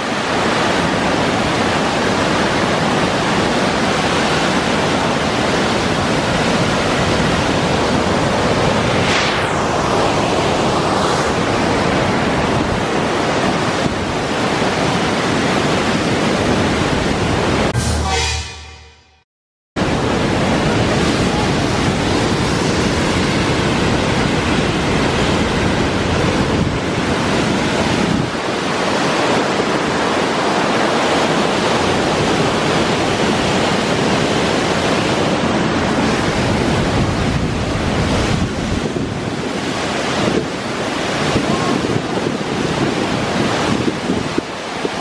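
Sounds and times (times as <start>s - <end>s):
wind buffeting microphone: 0.3s - 17.8s, 19.8s - 45.0s.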